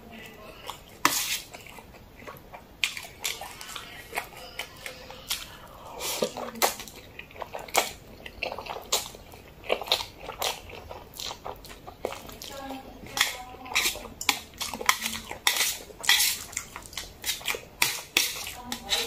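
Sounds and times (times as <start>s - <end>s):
wet chewing smacks: 0.2s - 19.0s.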